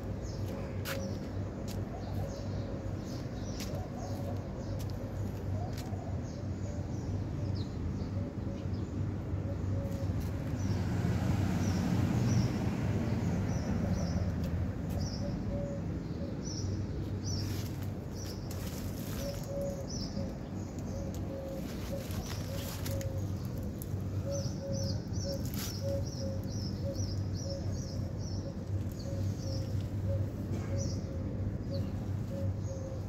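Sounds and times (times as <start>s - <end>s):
small birds chirping: 0.0s - 10.9s, 11.6s - 33.0s.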